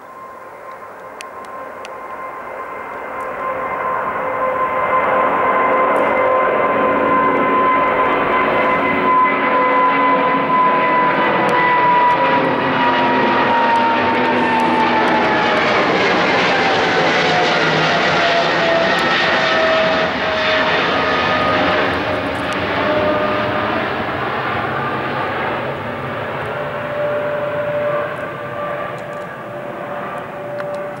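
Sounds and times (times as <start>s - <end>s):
jet engines roaring and whining: 0.0s - 31.0s.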